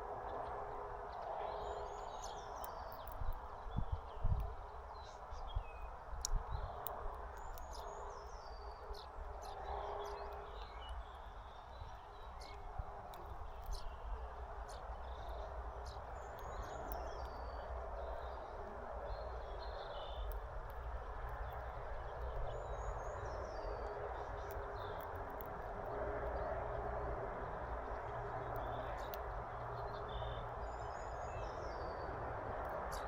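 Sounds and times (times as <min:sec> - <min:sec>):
small songbirds chirping: 0:00.0 - 0:33.0.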